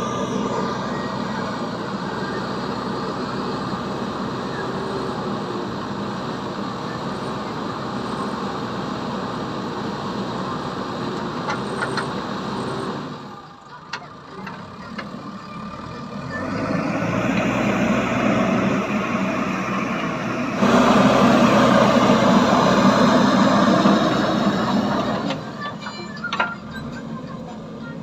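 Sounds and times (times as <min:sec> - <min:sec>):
heavy vehicle engine running: 0:00.0 - 0:28.0.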